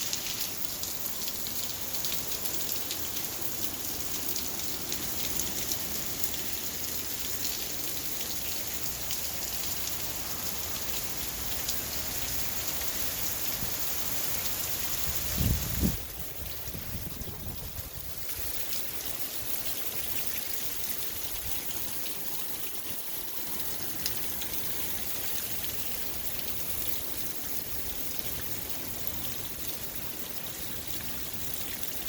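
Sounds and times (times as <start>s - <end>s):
heavy rain falling: 0.0s - 32.0s
raindrops ticking on a surface: 0.0s - 32.0s.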